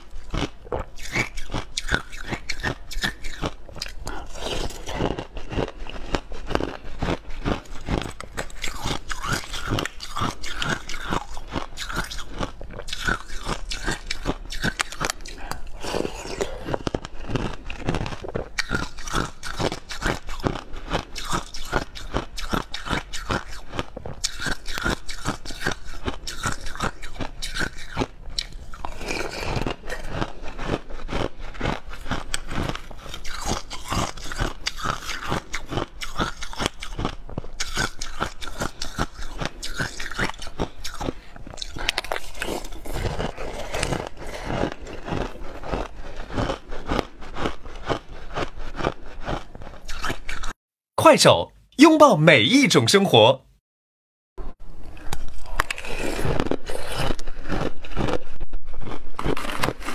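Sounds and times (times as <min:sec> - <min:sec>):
crushed ice being chewed: 0:00.0 - 0:50.6, 0:54.8 - 0:59.9.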